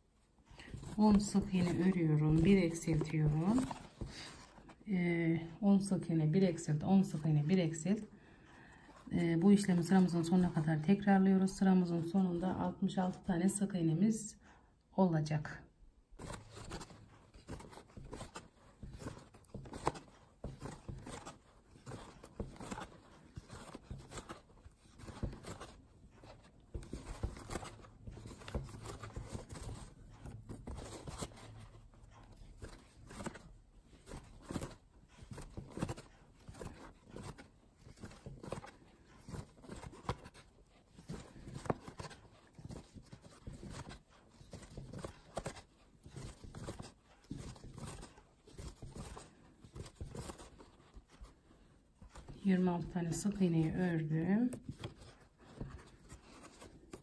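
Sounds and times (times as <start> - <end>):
yarn and crochet hook rustling: 0.0 - 14.2, 16.1 - 57.0.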